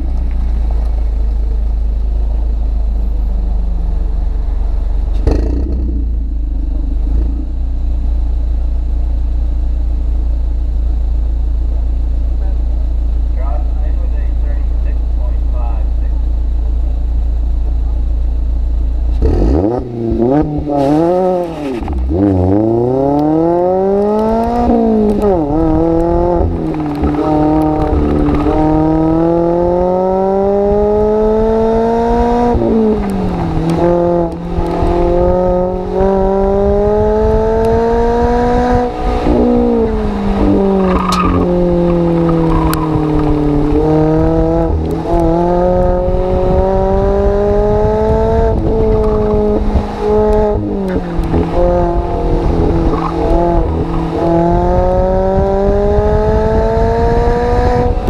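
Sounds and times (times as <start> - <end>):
car exhaust revving: 0.0 - 58.0.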